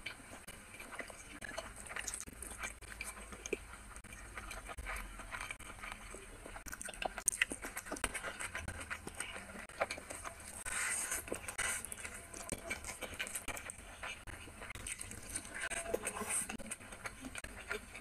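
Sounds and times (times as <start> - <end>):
wet chewing and lip smacks: 0.0 - 18.0.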